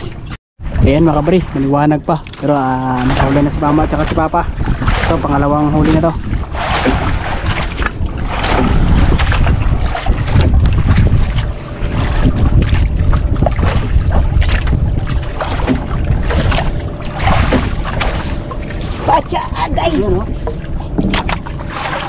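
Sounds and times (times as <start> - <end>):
waves slapping against hull: 0.0 - 22.0
wind buffeting microphone: 0.0 - 22.0.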